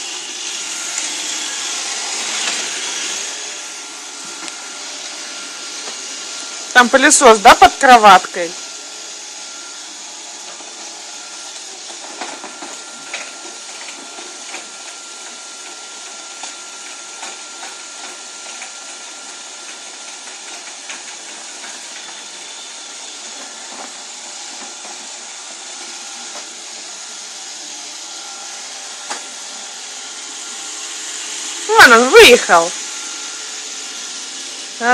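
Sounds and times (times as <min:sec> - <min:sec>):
robot vacuum cleaner hissing: 0:00.0 - 0:34.9.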